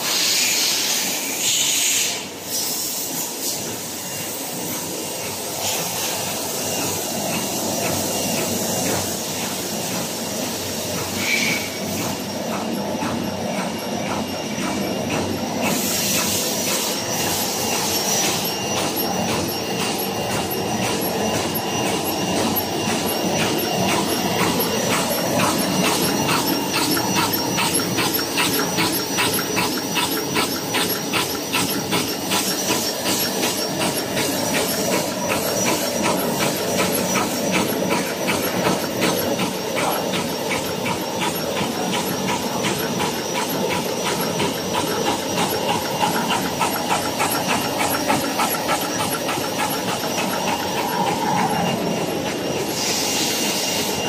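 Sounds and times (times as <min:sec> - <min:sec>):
mechanical whir and hiss: 0:00.0 - 0:54.0
rapid machine clicking: 0:03.6 - 0:52.8.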